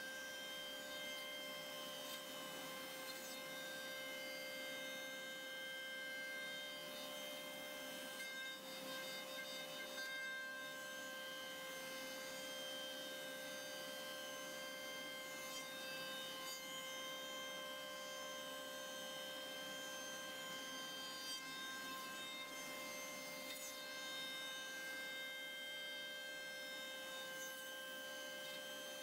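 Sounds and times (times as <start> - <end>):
router spindle whine: 0.0 - 29.0.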